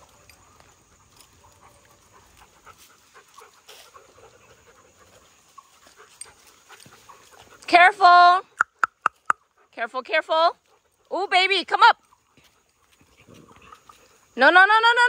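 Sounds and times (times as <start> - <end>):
dogs panting: 0.0 - 14.4.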